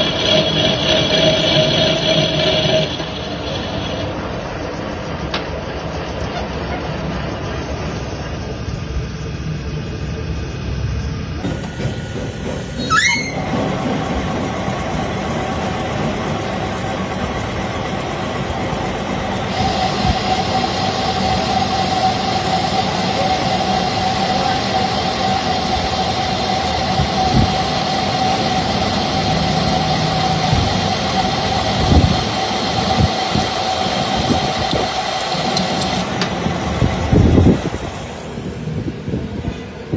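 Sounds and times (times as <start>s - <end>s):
machine tool whining: 0.0s - 39.9s.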